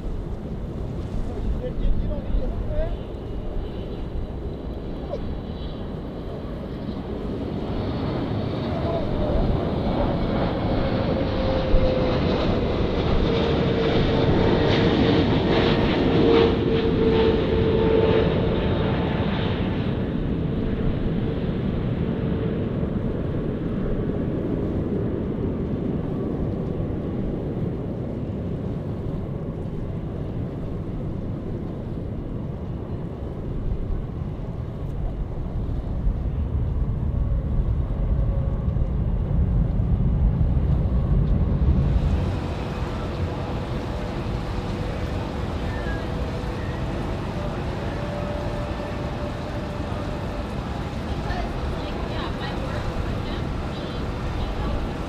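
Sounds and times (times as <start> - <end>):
jet airliner passing: 0.0 - 55.0
jet engine whine: 0.0 - 55.0.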